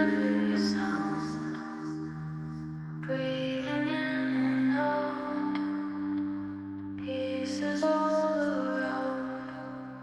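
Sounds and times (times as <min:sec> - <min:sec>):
slow ambient pad chords: 0:00.0 - 0:10.0.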